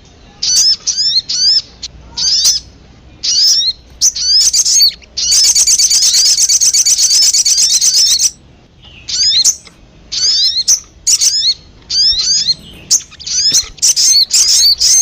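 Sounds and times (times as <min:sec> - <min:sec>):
songbird trill: 0:00.0 - 0:15.0
high bird chirps: 0:00.4 - 0:15.0.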